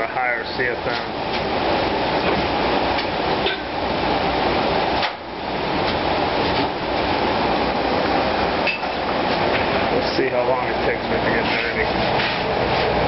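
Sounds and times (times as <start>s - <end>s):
fan rushing air: 0.0s - 13.0s.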